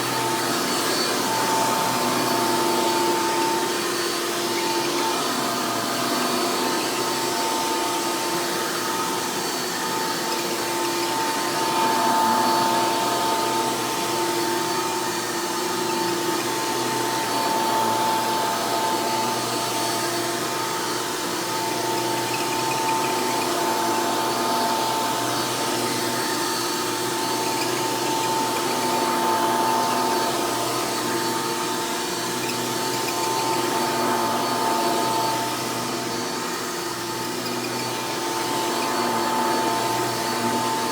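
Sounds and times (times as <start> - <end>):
vacuum cleaner motor whining: 0.0 - 40.9.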